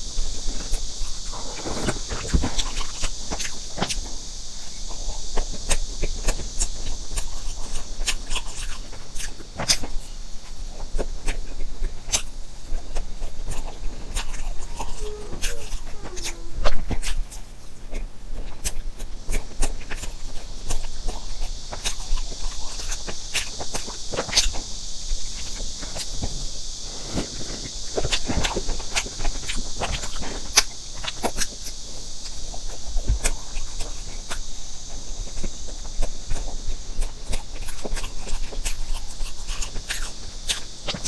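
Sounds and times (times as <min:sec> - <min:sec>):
steady high hiss: 0:00.0 - 0:41.0
chewing with wet mouth clicks: 0:04.7 - 0:24.6, 0:27.6 - 0:41.0.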